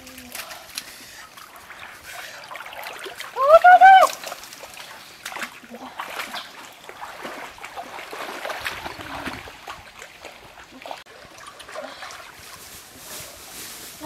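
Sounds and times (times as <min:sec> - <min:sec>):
small water splashes: 0:00.0 - 0:13.2
stream water trickling: 0:00.0 - 0:14.0.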